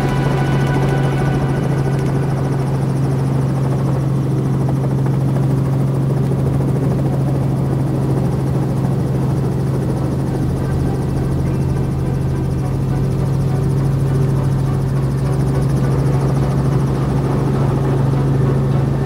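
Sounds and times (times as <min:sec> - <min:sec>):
helicopter cabin drone: 0:00.0 - 0:19.0.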